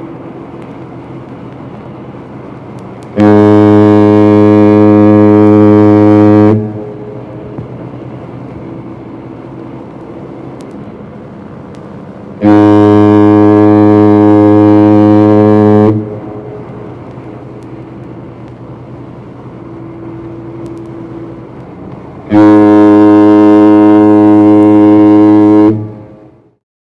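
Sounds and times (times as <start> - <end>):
ship's foghorn blasts: 0.0 - 26.6
steady low rumble: 0.0 - 26.6.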